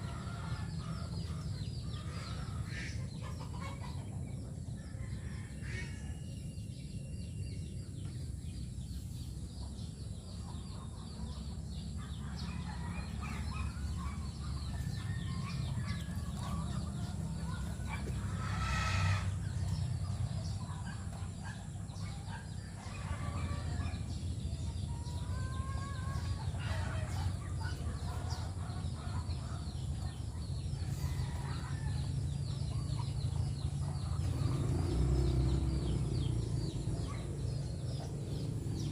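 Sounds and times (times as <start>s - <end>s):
chickens clucking: 0.0s - 6.2s, 9.1s - 38.9s.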